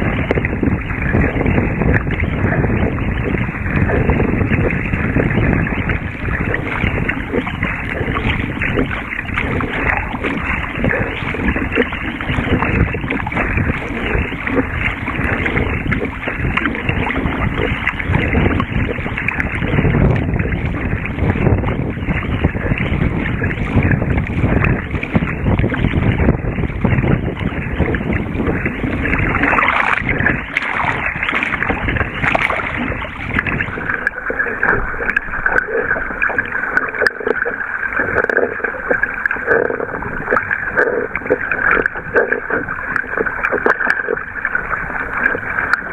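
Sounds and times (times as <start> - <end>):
water slapping against hull: 0.0 - 45.9
wind buffeting microphone: 0.0 - 45.9.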